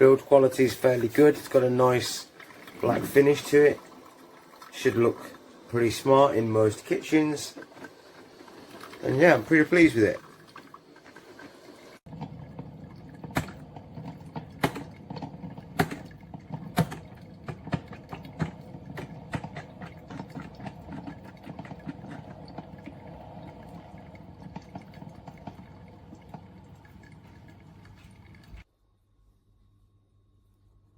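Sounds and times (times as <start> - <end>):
coffee machine gurgling pops: 0.0 - 28.6
coffee machine running: 0.1 - 28.6.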